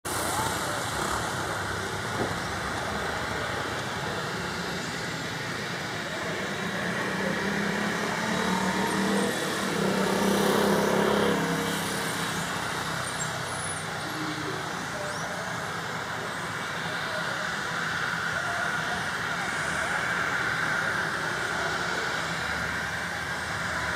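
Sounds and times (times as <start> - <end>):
jet engines running: 0.1 - 23.9.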